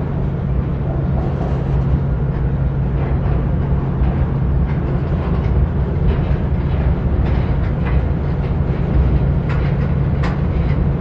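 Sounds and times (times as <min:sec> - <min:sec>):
rail car wheels rumbling on track: 0:00.0 - 0:11.0.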